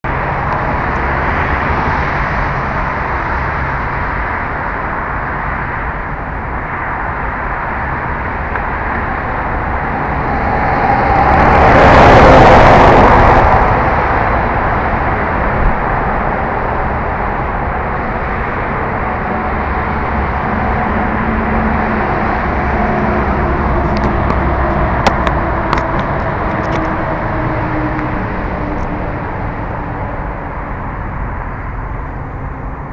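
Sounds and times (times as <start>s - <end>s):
road vehicle noise: 0.0s - 32.9s.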